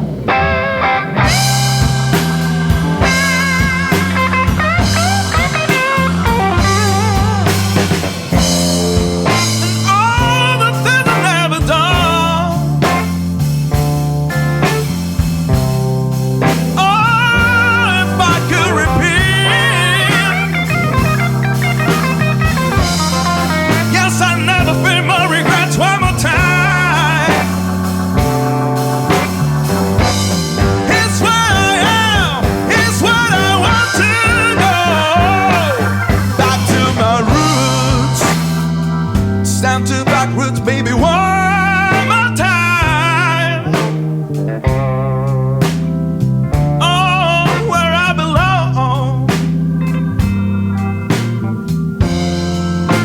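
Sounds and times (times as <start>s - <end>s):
blues-rock band playing: 0.0s - 53.0s
lead guitar bent notes: 0.0s - 53.0s.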